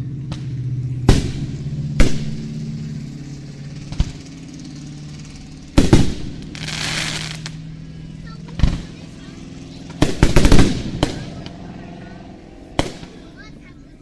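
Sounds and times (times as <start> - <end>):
fireworks shells bursting: 0.3 - 11.6, 12.2 - 13.6
fireworks crackling hiss: 0.3 - 14.0.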